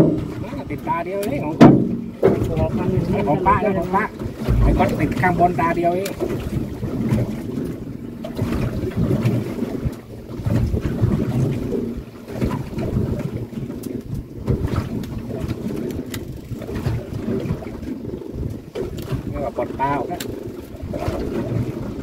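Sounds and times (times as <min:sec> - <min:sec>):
water washing: 0:00.0 - 0:22.0
wind buffeting microphone: 0:00.0 - 0:22.0.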